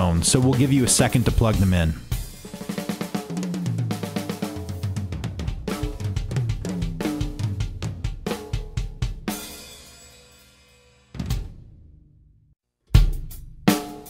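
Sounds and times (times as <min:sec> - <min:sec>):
drum kit groove: 0:00.0 - 0:12.0, 0:12.9 - 0:14.0.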